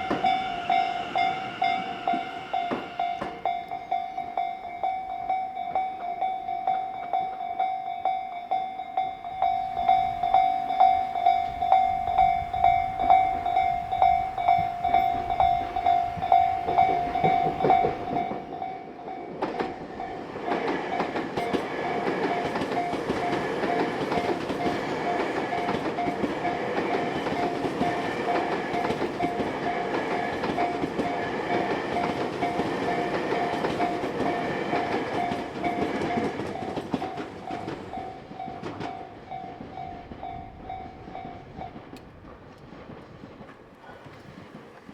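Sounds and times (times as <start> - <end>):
train rattling rumble: 0.0 - 8.1, 8.7 - 44.9
level crossing warning bell: 0.0 - 42.0.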